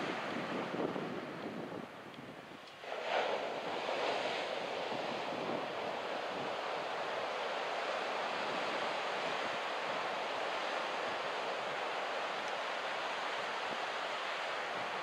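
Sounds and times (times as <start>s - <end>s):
surf breaking on beach: 2.8s - 15.0s.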